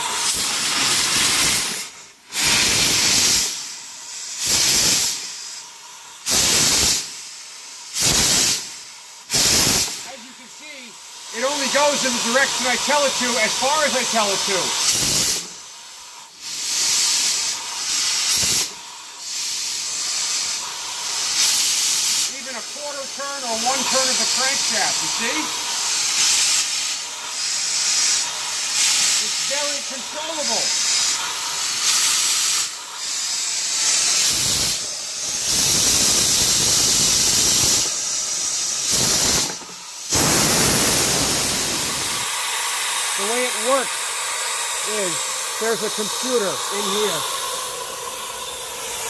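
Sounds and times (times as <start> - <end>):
steam engine hissing: 0.0 - 49.0.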